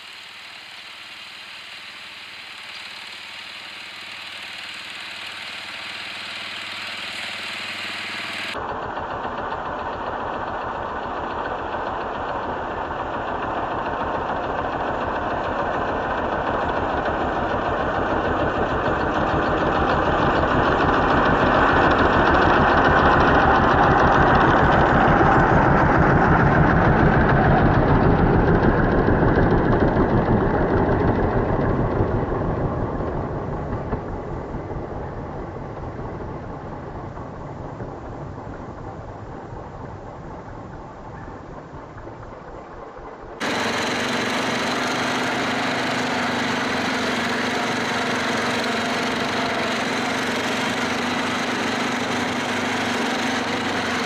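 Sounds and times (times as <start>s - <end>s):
snowmobile engine passing by: 0.0s - 38.2s, 42.0s - 54.0s.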